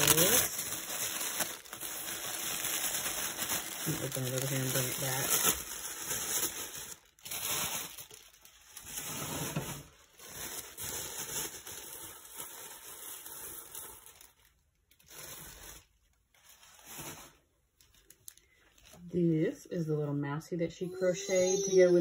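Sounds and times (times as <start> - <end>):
wrapping paper rustling and tearing: 0.0 - 19.1.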